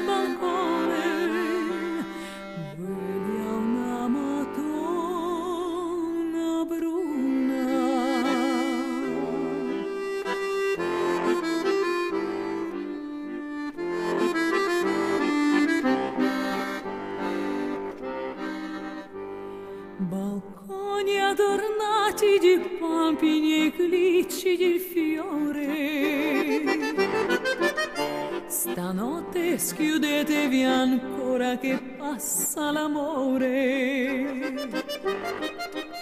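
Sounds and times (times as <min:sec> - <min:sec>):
accordion playing a melody: 0:00.0 - 0:36.0.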